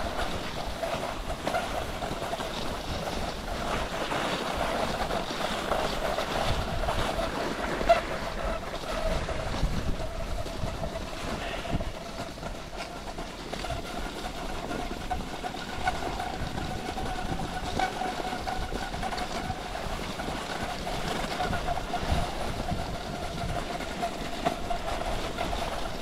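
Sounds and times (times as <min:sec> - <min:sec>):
skis swishing on snow: 0:00.0 - 0:26.0
wind buffeting microphone: 0:00.0 - 0:26.0.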